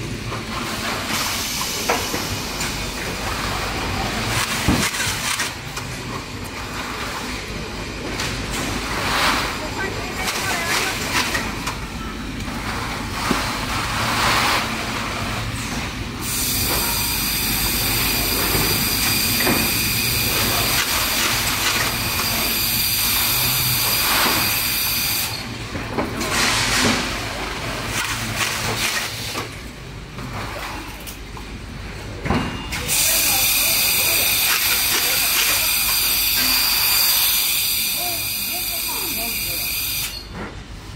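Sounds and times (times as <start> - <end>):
factory machinery running: 0.0 - 40.9.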